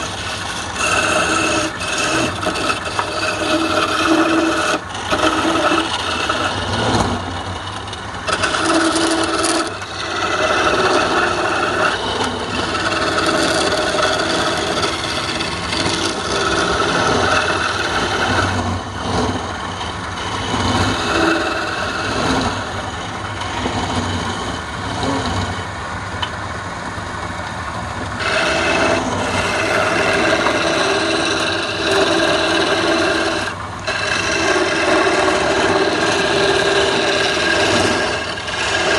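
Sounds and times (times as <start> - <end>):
chisel scraping spinning wood: 0.0 - 38.9
lathe humming: 0.0 - 38.9.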